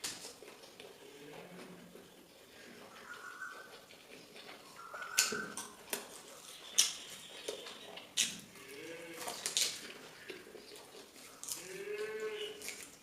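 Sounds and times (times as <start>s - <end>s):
crunching and chewing food: 0.0s - 13.0s.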